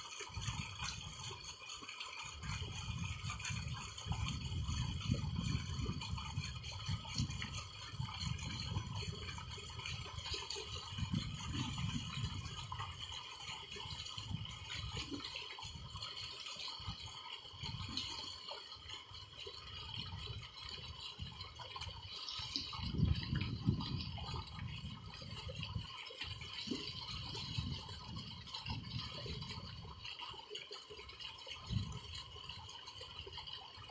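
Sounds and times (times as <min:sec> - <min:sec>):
water gushing into a tank: 0:00.0 - 0:33.9.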